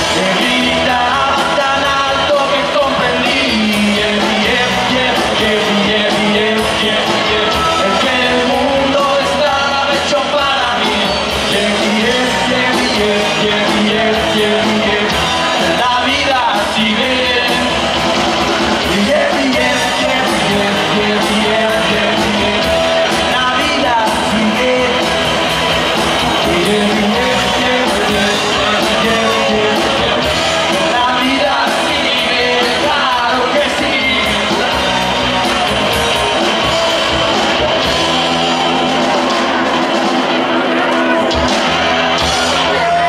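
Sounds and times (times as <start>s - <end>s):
men singing lead vocal: 0.0s - 17.7s, 18.8s - 35.6s
live rock band playing: 0.0s - 43.0s.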